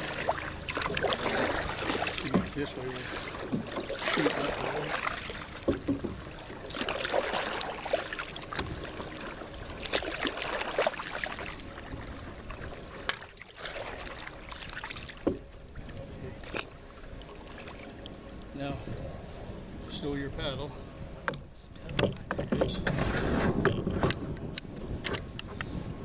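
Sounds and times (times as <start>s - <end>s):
paddles splashing through water: 0.0s - 18.7s, 22.1s - 25.0s.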